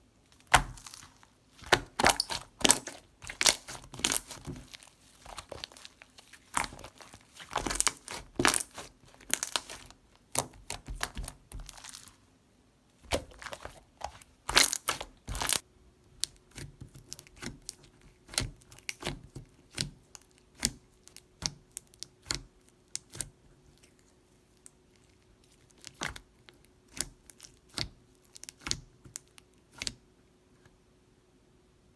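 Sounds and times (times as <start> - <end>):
slime squished by hand: 0.3 - 12.2, 13.0 - 15.6, 16.2 - 30.0.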